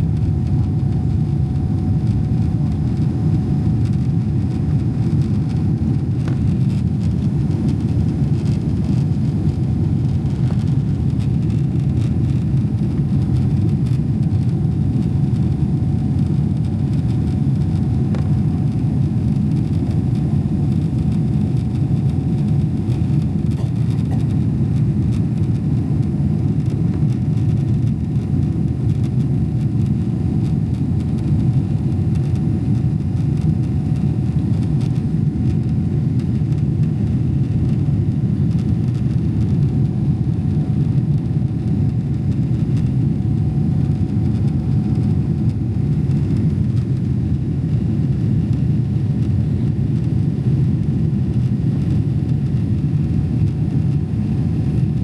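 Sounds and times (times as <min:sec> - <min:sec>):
aircraft cabin engine rumble: 0:00.0 - 0:55.0
faint constant hum: 0:00.0 - 0:55.0.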